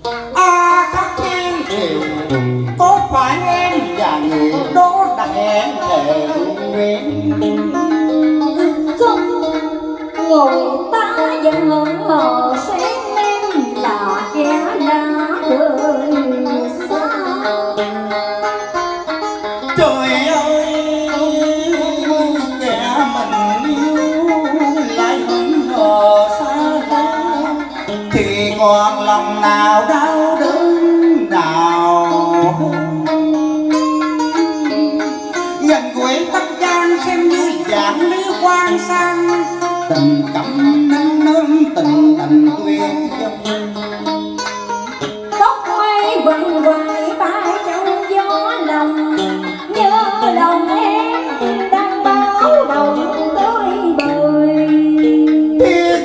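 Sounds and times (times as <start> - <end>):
guitar melody with sliding notes: 0.0 - 56.0
woman singing: 0.4 - 18.8, 19.7 - 43.5, 45.3 - 56.0.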